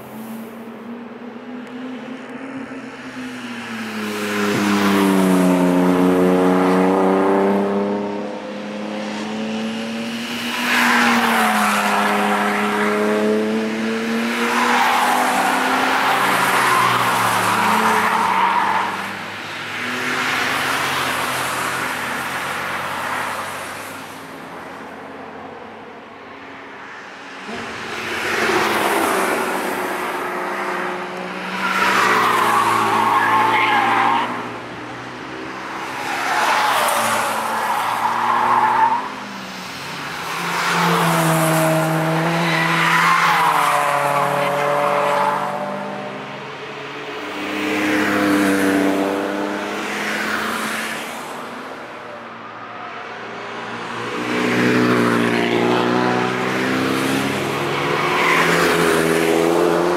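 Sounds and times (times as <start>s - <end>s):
race cars passing by: 0.0s - 59.9s.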